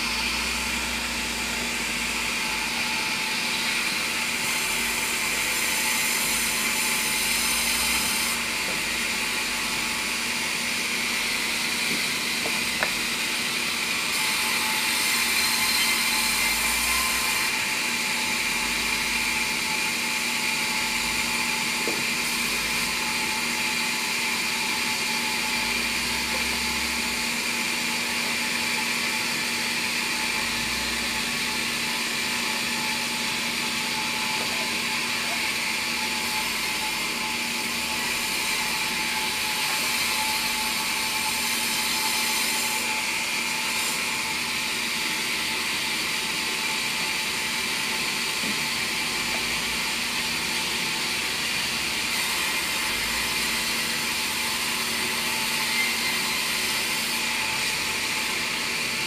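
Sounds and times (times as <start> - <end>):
band saw cutting timber: 0.0 - 59.0.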